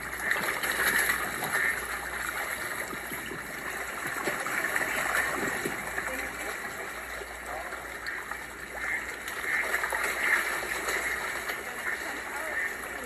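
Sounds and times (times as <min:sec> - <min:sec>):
fish splashing at water surface: 0:00.0 - 0:13.0.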